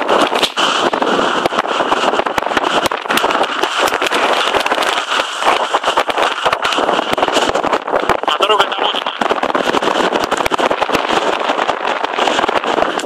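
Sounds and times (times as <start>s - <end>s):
blizzard wind buffeting microphone: 0.0s - 13.0s
short crackling pops: 0.0s - 13.0s.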